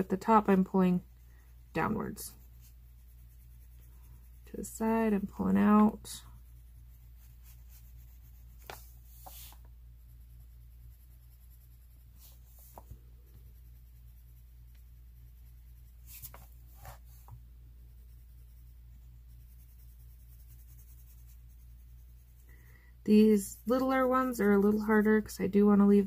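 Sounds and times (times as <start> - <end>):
low electrical hum: 0.0 - 26.0
pencil scratching on paper: 0.0 - 26.0.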